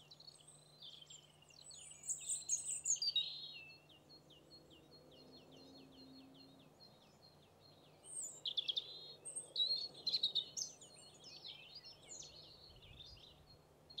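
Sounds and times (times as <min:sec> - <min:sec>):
bird twittering and trilling: 0:00.1 - 0:14.0.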